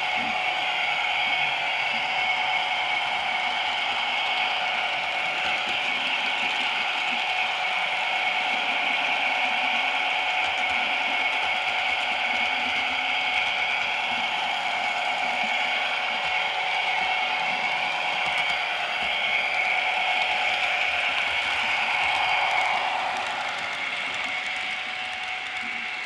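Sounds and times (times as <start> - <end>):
model train motor whirring: 0.0 - 26.0.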